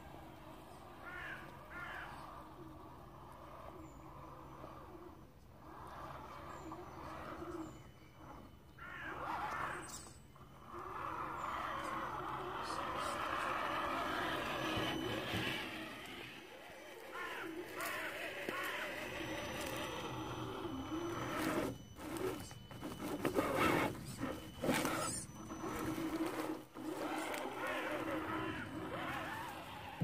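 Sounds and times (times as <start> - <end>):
electric motor and gears whining: 0.0 - 30.0
tyres scraping over dirt and leaves: 5.6 - 30.0.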